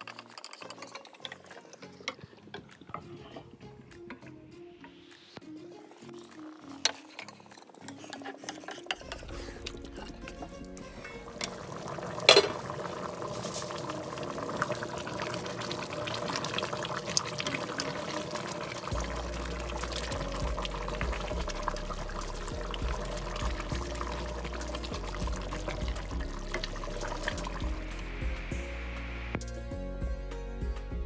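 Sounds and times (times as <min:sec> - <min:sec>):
ladle stirring a pot: 0:00.0 - 0:03.6, 0:06.1 - 0:28.0
stew boiling and bubbling: 0:00.0 - 0:04.4, 0:05.4 - 0:29.4.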